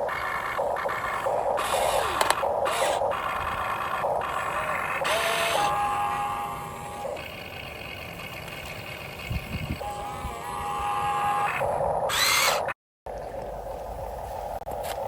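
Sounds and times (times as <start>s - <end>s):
electric motors and gears whirring: 0.0s - 15.0s.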